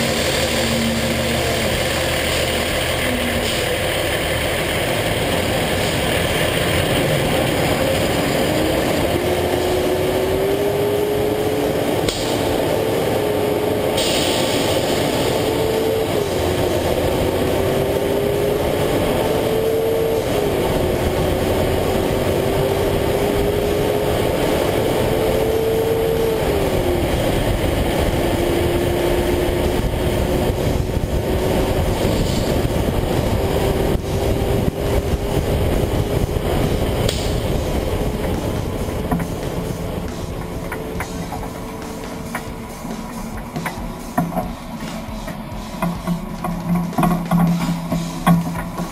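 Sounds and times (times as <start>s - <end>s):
diesel truck engine accelerating: 0.0s - 48.9s
tire and road noise: 0.0s - 48.9s.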